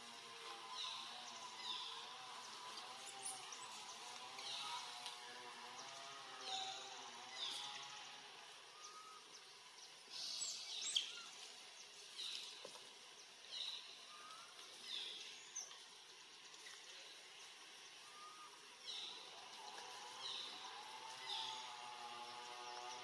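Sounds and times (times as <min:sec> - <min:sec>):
faint outdoor ambience: 0:00.0 - 0:23.0.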